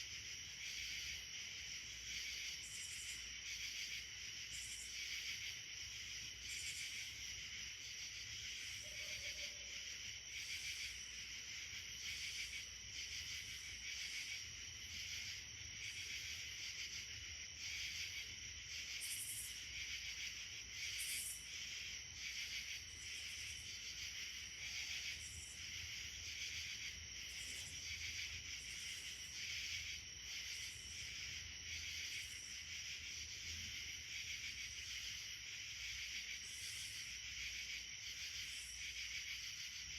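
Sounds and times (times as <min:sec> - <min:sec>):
high insect chirps: 0:00.0 - 0:39.9
insect chorus trilling: 0:00.0 - 0:39.9.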